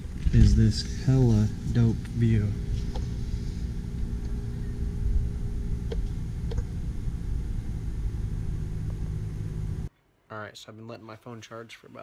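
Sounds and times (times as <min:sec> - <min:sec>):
low city rumble: 0:00.0 - 0:09.9
machine hum: 0:00.0 - 0:09.9.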